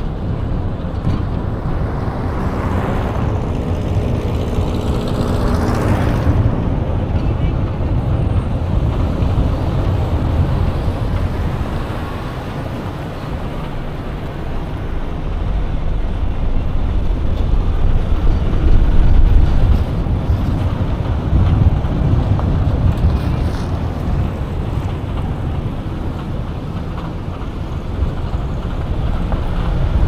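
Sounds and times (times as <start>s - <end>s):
road traffic: 0.0s - 30.0s
wind buffeting microphone: 0.0s - 30.0s.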